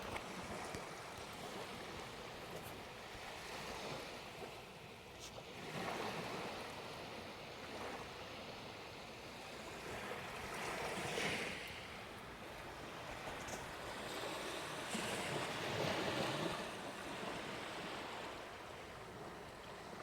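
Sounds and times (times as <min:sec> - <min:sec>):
small waves washing onto sand: 0:00.0 - 0:20.0.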